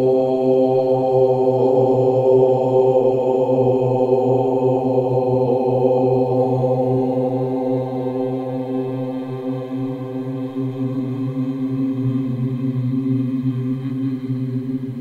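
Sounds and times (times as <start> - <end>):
chanted mantra drone: 0.0 - 15.0.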